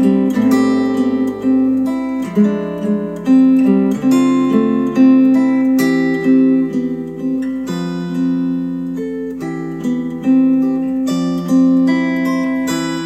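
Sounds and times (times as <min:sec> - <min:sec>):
acoustic guitar instrumental music: 0:00.0 - 0:13.0.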